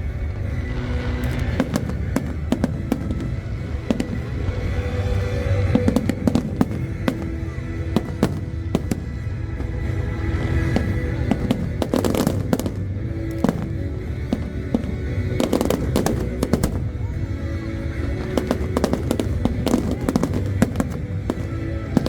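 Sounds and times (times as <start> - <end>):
fireworks bangs and crackles: 0.0 - 22.0
low rumble: 0.0 - 22.0
music playing: 0.0 - 22.0.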